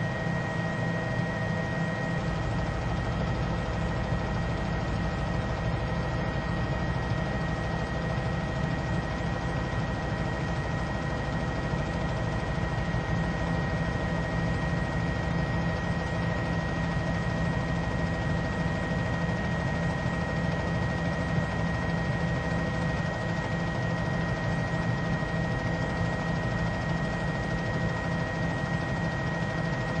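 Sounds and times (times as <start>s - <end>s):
helicopter rotor and engine: 0.0s - 30.0s.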